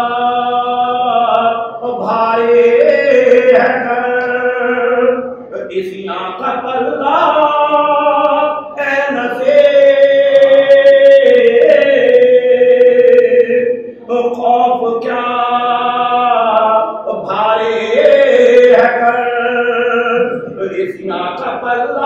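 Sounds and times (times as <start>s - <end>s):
mournful chanting in held notes: 0.0s - 22.0s.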